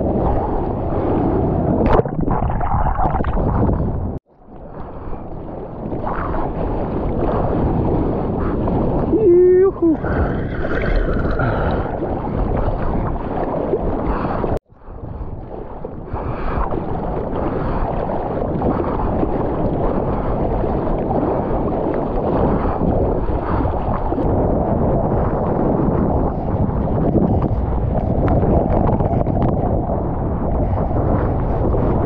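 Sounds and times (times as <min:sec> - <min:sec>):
seawater splashing and rushing: 0:00.0 - 0:32.0
wind buffeting microphone: 0:00.0 - 0:32.0.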